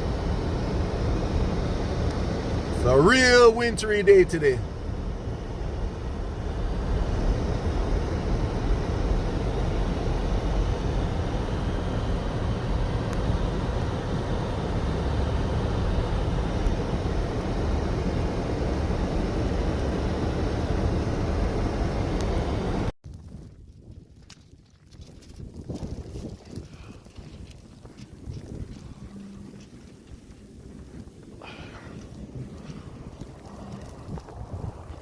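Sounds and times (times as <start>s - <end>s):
car driving on road: 0.0s - 23.5s, 24.9s - 35.0s.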